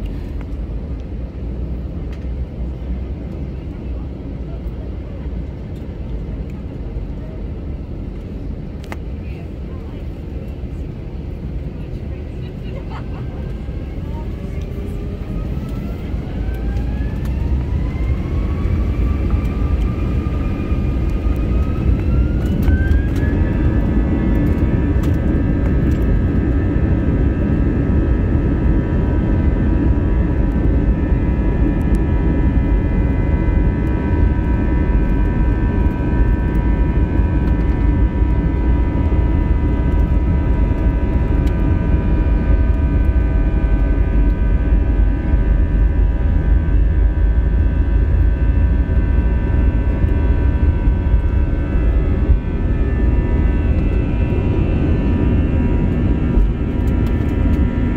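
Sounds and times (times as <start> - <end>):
heavy engine rumble: 0.0 - 57.9
jet engine whine rising: 7.6 - 57.9.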